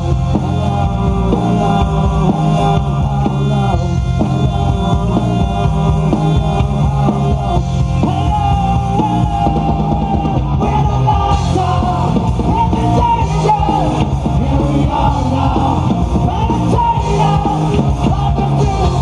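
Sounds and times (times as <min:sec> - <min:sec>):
drums: 0:00.0 - 0:19.0
electric guitars: 0:00.0 - 0:19.0
man singing into microphone: 0:00.0 - 0:19.0.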